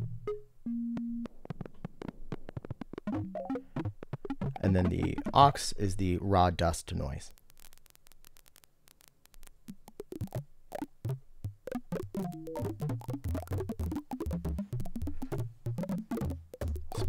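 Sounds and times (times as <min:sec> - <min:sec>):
synth random clicks and crackles: 0:00.0 - 0:05.7, 0:06.6 - 0:17.0
low pitched pops: 0:01.2 - 0:05.6, 0:07.3 - 0:17.0.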